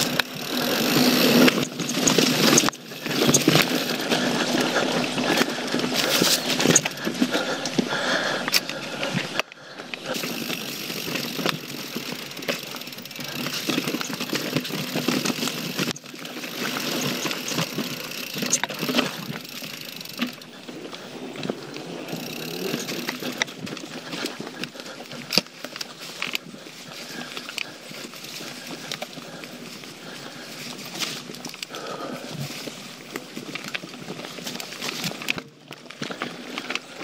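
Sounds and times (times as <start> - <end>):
bike clicks and rattles: 0.0 - 37.0
bike tyres on dirt and leaves: 0.0 - 37.0.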